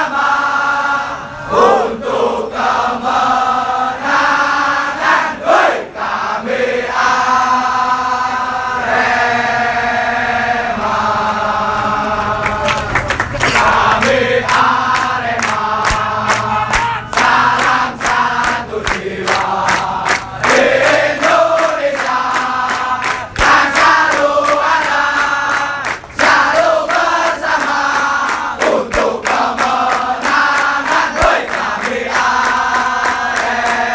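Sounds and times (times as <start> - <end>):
crowd chanting in unison: 0.0 - 33.9.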